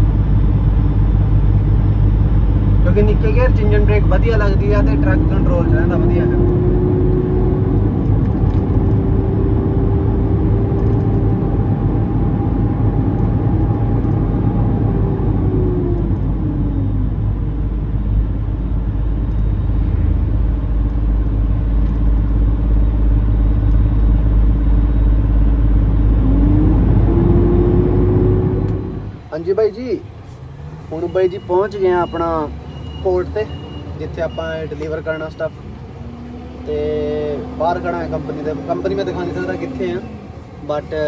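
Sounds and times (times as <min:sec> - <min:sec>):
truck diesel engine running: 0:00.0 - 0:34.1.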